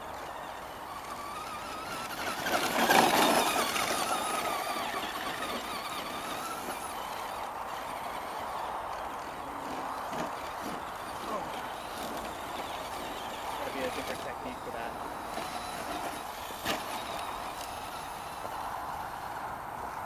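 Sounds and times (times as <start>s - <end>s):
electric motor whining: 0.0s - 20.0s
tyre and dirt noise: 0.0s - 20.0s.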